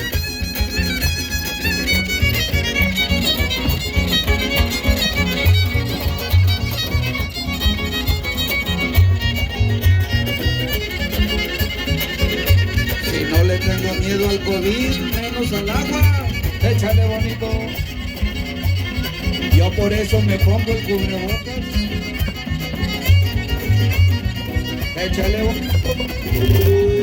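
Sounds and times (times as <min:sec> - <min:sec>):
fiddle melody: 0:00.0 - 0:27.0
guitar bass notes: 0:00.0 - 0:27.0
strummed guitars: 0:00.0 - 0:27.0.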